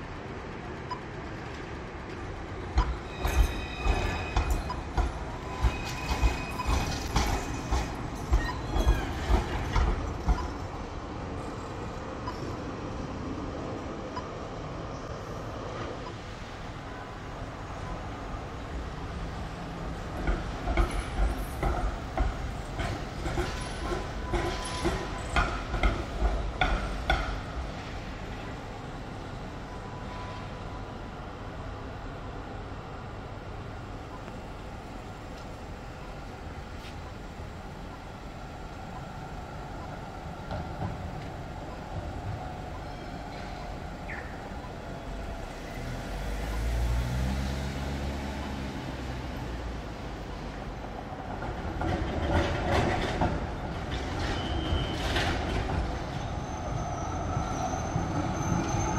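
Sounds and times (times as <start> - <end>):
low city hum: 0.0 - 58.9
tram rumble: 0.0 - 58.9
tram wheels clattering on track: 0.0 - 58.9.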